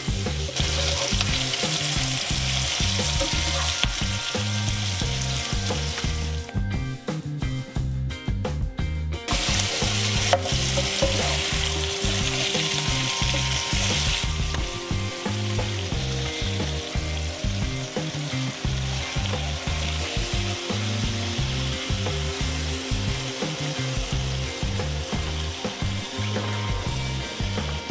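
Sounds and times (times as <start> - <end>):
food sizzling in hot oil: 0.0 - 6.7, 9.3 - 27.9.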